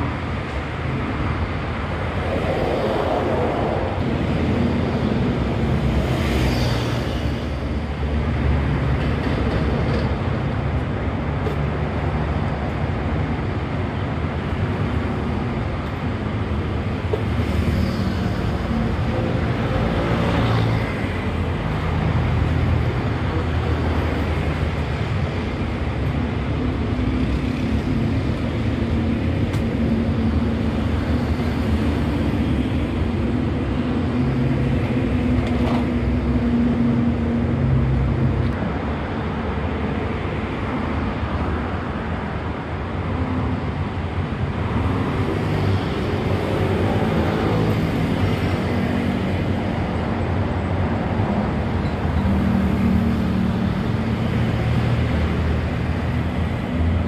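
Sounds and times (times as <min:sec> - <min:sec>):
cars and motorcycles passing: 0:00.0 - 0:57.0.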